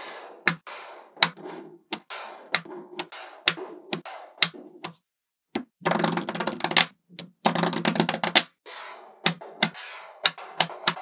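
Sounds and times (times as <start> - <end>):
magnetic balls clicking together: 1.2 - 8.6, 9.2 - 11.0.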